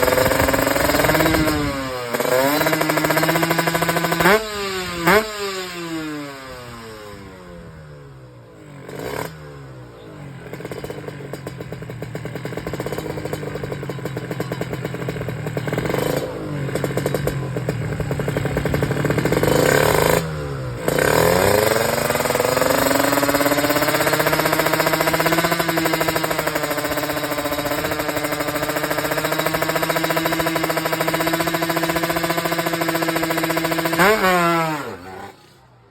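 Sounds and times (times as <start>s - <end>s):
motorcycle engine sputtering: 0.0s - 35.9s.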